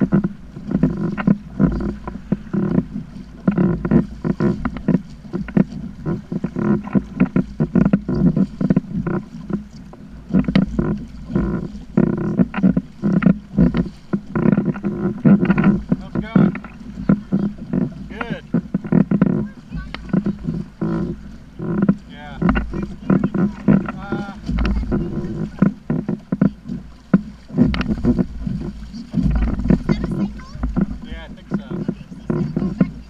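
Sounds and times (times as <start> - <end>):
low wind rumble: 0.0 - 33.0
water slapping kayak hull: 0.0 - 33.0.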